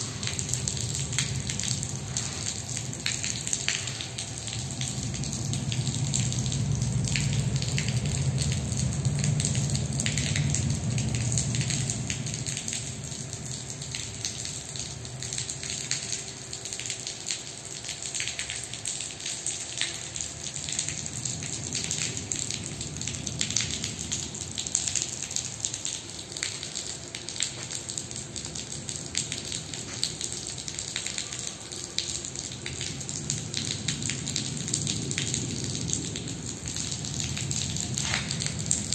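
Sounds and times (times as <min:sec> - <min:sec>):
water splashing on concrete floor: 0:00.0 - 0:38.9.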